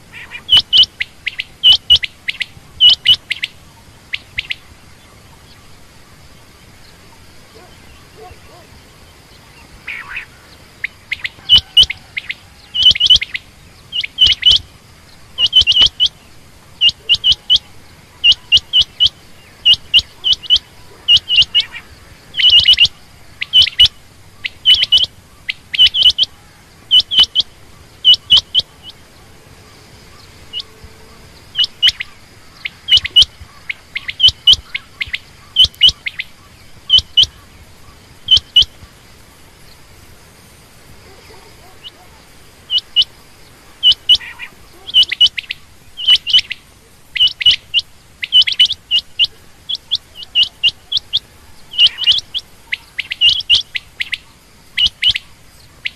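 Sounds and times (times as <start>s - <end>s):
quail calling: 0.0s - 55.9s.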